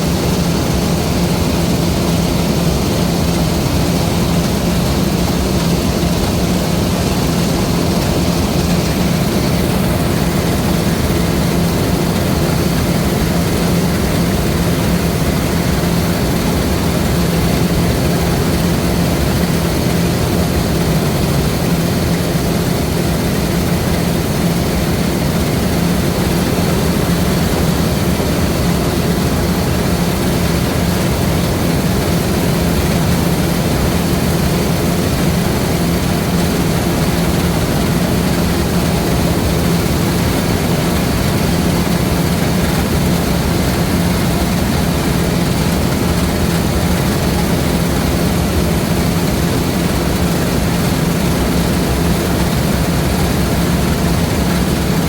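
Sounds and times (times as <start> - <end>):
combine harvester diesel engine droning: 0.0 - 55.0.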